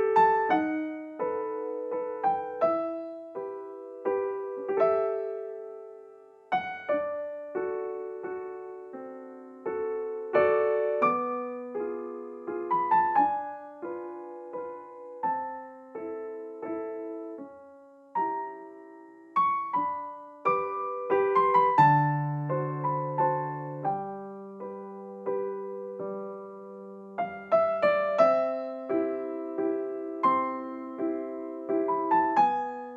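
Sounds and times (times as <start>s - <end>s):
slow solo piano music: 0.0s - 32.9s.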